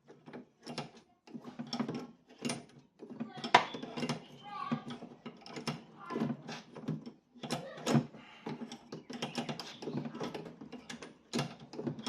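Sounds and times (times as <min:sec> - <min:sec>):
hand tools knocking on metal: 0:01.4 - 0:12.0.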